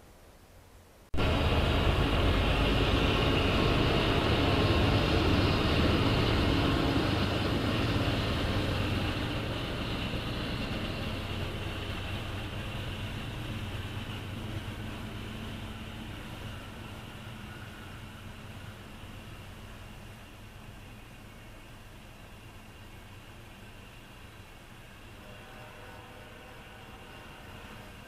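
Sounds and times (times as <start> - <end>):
freight locomotives passing: 1.2 - 28.0.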